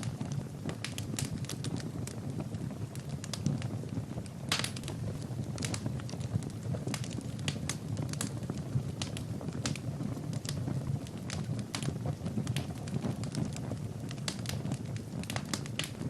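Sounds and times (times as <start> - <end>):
fireplace fire crackling: 0.0 - 16.0
low flame rumble: 0.0 - 16.0.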